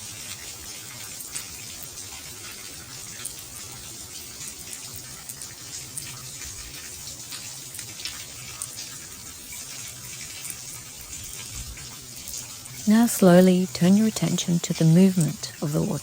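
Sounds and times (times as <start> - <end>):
water drips and splashes: 0.0 - 16.0.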